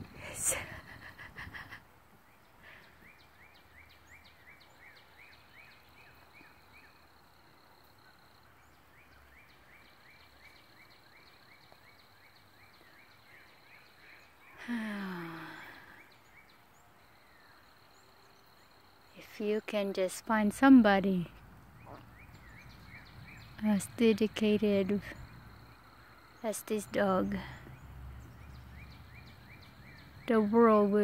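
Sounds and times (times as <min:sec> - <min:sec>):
small bird chirping: 0:00.2 - 0:31.0.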